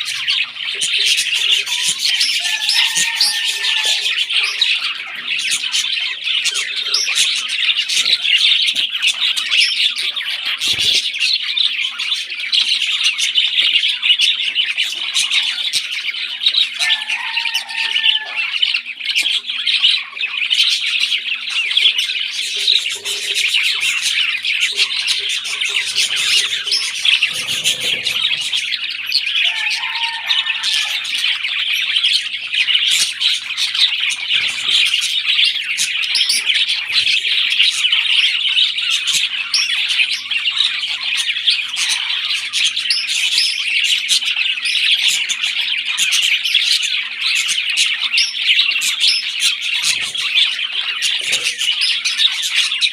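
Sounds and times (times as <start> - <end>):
parrots squawking and chirping: 0.0 - 52.9.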